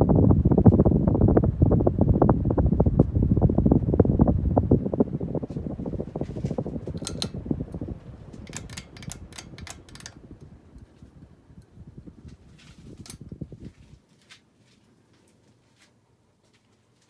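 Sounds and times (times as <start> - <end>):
ceiling fan air buffeting microphone: 0.0 - 17.0.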